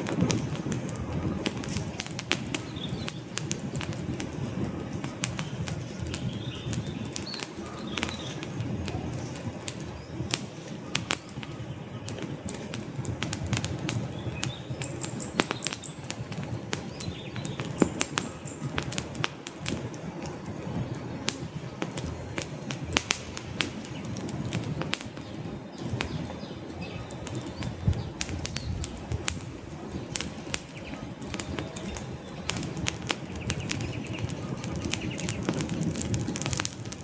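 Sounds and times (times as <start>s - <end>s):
logs crackling and popping: 0.0s - 37.0s
low rumble of flames: 0.0s - 37.0s.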